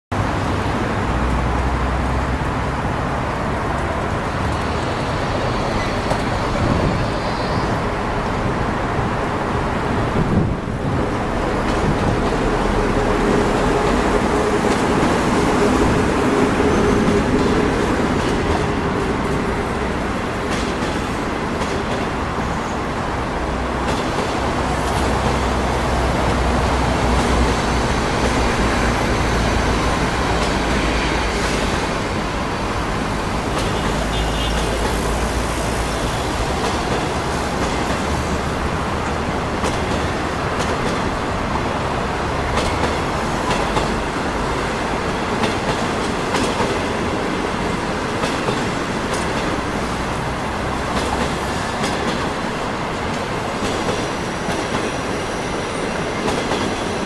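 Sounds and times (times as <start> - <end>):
train wheels rumbling on rail: 0.1 - 57.0.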